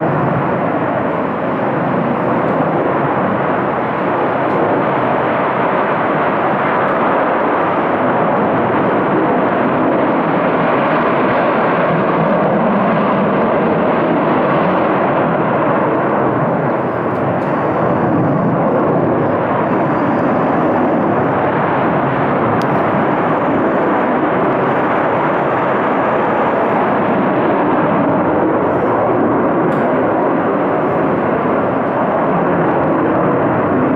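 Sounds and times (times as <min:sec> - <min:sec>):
fighter jets taking off: 0:00.0 - 0:33.9.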